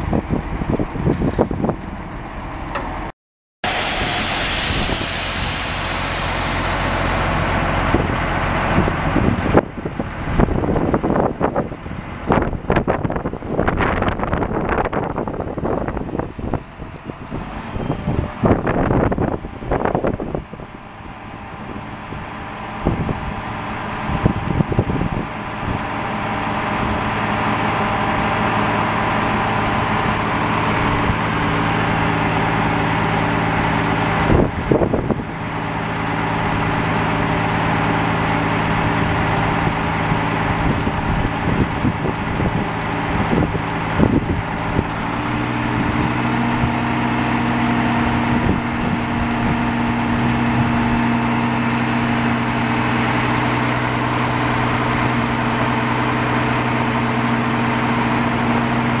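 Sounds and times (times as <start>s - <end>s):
diesel truck engine idling: 3.7s - 59.0s.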